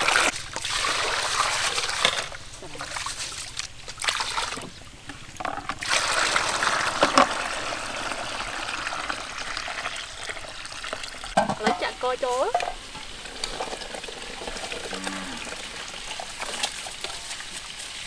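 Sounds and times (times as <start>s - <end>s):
water pouring into bucket: 0.0s - 4.7s, 5.8s - 18.0s.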